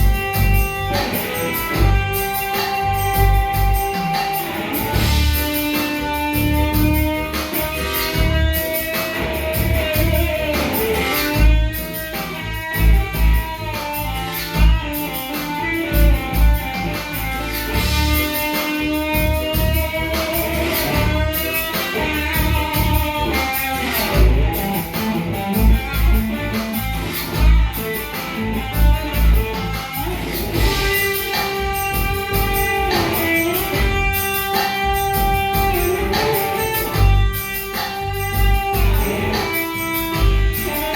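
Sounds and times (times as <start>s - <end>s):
band playing blues: 0.0s - 40.9s.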